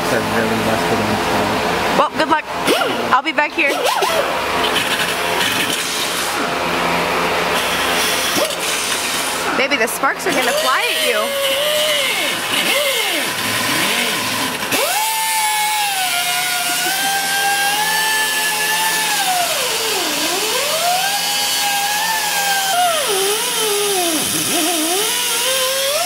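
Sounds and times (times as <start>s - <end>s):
cut-off tool whining: 0.0s - 26.0s.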